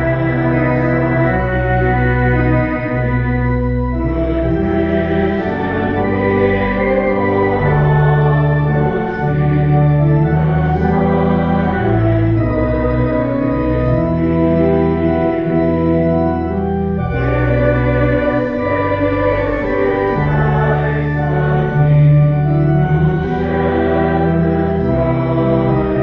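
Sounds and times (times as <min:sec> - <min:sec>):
church organ playing chords: 0:00.0 - 0:26.0.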